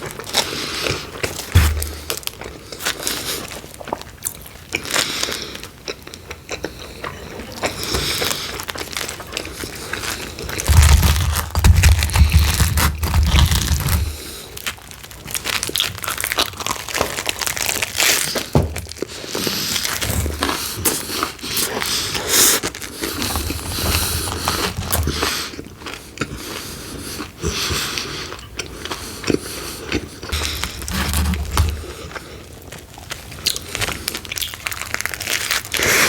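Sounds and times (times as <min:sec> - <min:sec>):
chewing and biting pizza: 0:00.0 - 0:36.0
crackly mouth noises: 0:00.0 - 0:36.0.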